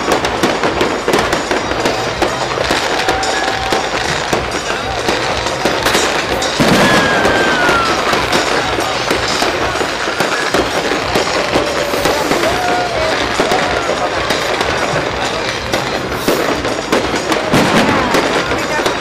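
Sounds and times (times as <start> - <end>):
fireworks crackling: 0.0 - 19.0
loud firework bang: 0.0 - 19.0.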